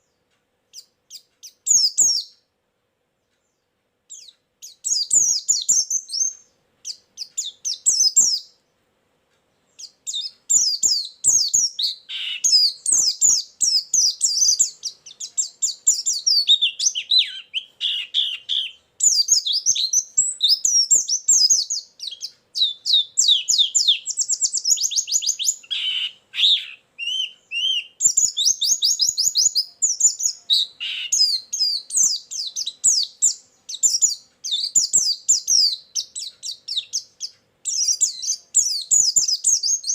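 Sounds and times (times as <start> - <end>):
bird twittering song: 0.0 - 2.5, 3.2 - 8.8, 9.5 - 39.9.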